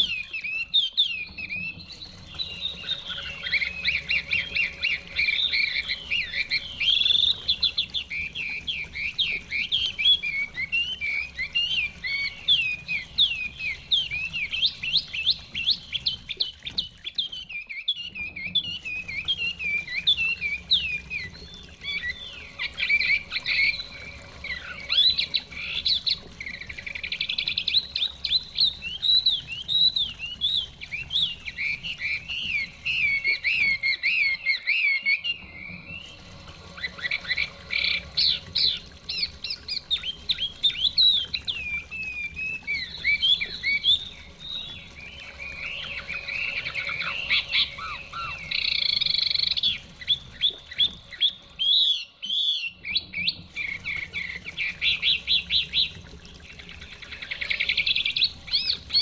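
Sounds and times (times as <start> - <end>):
bird singing whistled notes: 0.0 - 55.9
faint running stream: 0.0 - 59.0.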